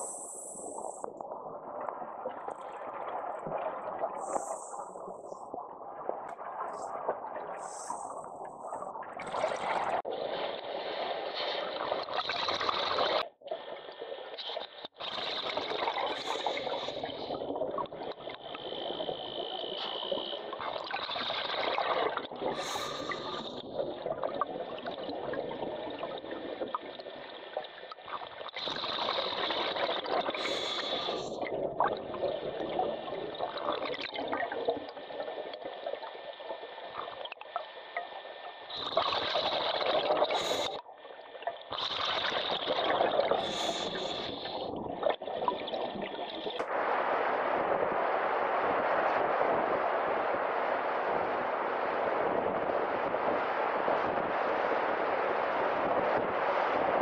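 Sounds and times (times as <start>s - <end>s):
underwater bubbling and gurgling: 0.0s - 57.0s.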